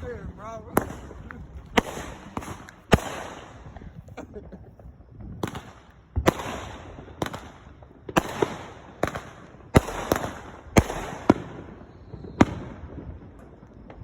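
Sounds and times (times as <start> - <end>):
fireworks bangs with crackling hiss: 0.0 - 14.0.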